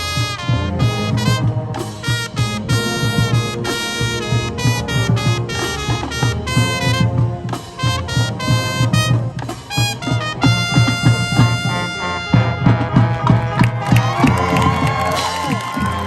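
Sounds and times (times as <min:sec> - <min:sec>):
brass punched chords: 0:00.0 - 0:16.0
marching band playing: 0:00.0 - 0:16.0.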